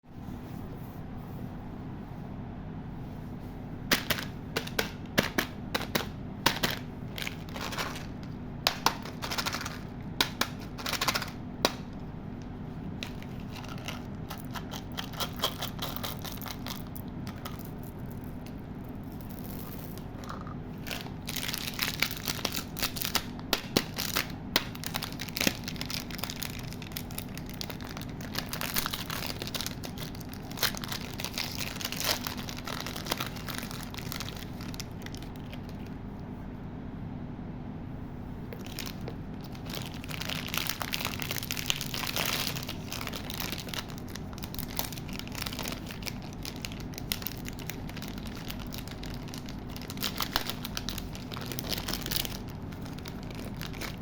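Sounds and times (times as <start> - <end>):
faint low hum: 0.0 - 54.0
plastic wrappers crinkling and tearing: 3.9 - 12.0, 13.0 - 36.0, 38.6 - 54.0.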